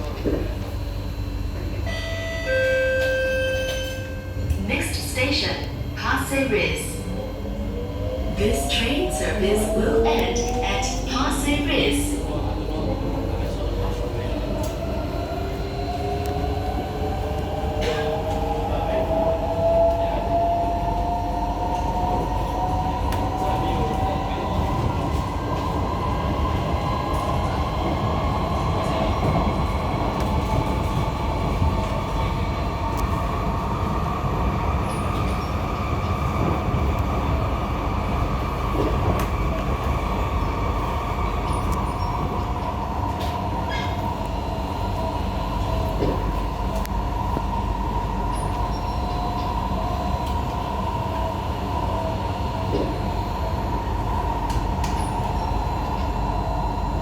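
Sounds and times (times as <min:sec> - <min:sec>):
train rumble inside carriage: 0:00.0 - 0:57.0.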